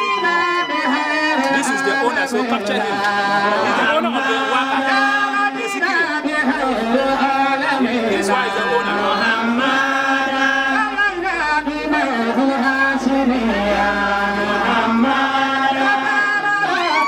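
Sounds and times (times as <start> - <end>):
person chanting melodic recitation: 0.0 - 17.0.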